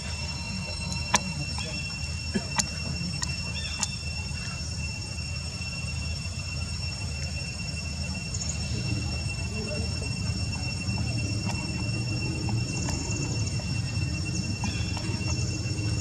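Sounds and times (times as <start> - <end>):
high-pitched drone of insects: 0.0 - 16.0.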